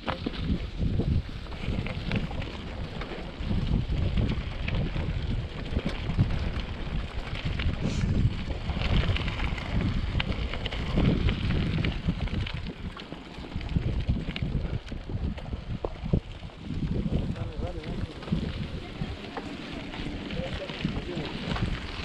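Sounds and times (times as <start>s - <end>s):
bike clattering on rough trail: 0.0s - 22.0s
wind buffeting microphone: 0.0s - 22.0s.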